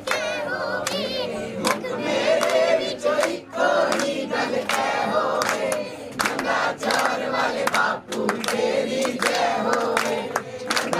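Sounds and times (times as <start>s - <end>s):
group singing a chant: 0.0s - 10.9s.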